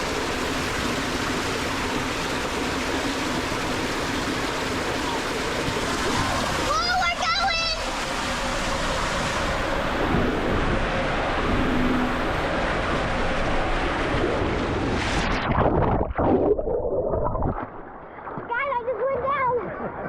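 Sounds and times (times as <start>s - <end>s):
water rushing on a water slide: 0.0s - 20.0s.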